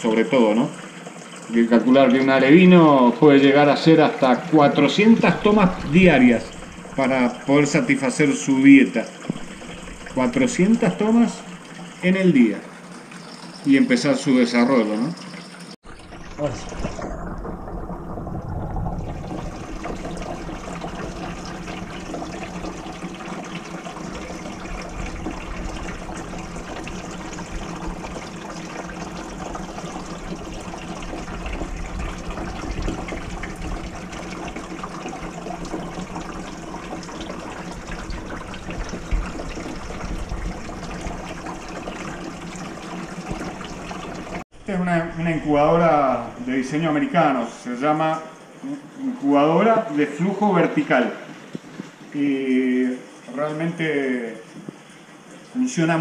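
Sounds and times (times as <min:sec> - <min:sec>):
water running: 0:00.0 - 0:56.0.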